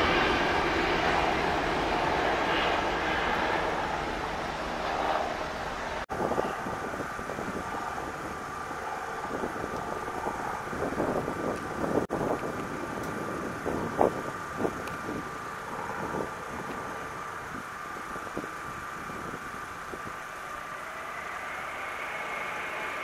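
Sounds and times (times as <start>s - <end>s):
faint steady whine: 0.0s - 23.0s
jet engine roar: 0.0s - 23.0s
wind buffeting microphone: 0.0s - 23.0s.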